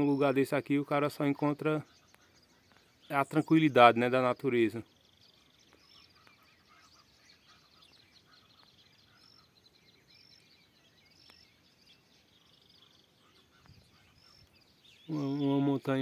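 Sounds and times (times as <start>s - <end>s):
bird chirps and twitters: 0.0s - 16.0s.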